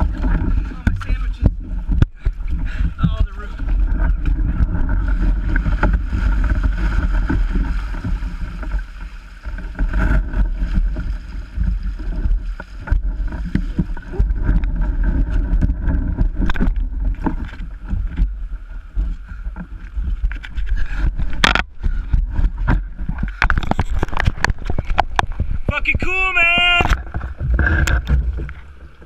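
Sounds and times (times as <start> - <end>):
wind rumble: 0.0 - 29.0.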